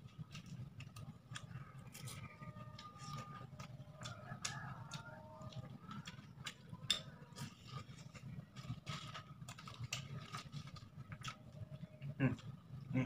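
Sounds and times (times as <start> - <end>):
crackers crunching: 0.0 - 12.6.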